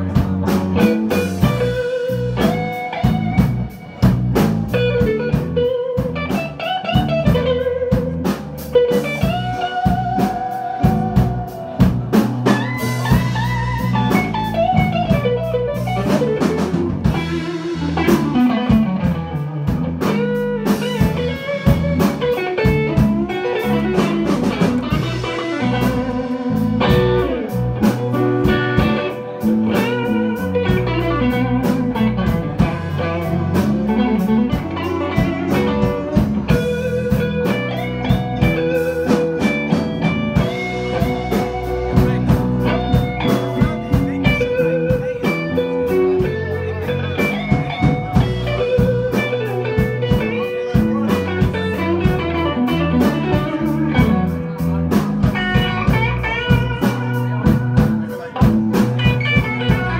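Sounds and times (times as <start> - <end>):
electric guitar playing blues: 0.0 - 59.9.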